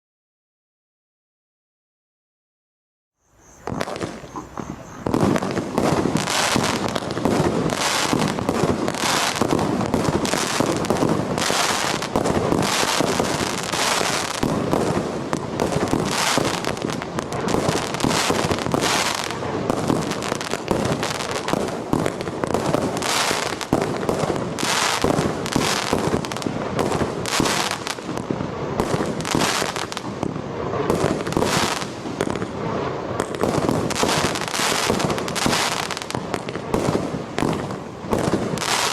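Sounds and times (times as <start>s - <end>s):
firework bangs: 3.6s - 38.9s
firework crackling: 3.6s - 38.9s.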